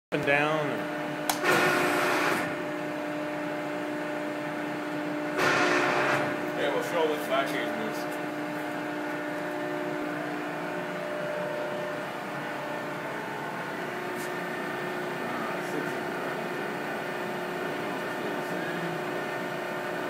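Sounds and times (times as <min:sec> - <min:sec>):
hydraulic press humming and whining: 0:00.2 - 0:20.0.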